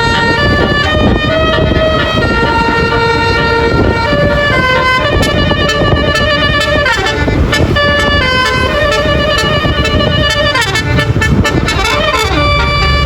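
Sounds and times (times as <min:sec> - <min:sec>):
musical bus horn tune: 0:00.0 - 0:13.0
road and engine noise: 0:00.0 - 0:13.0.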